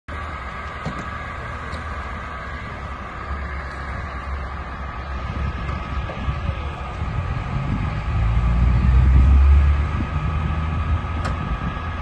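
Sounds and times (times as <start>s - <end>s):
fire engine motor running: 0.1s - 12.0s.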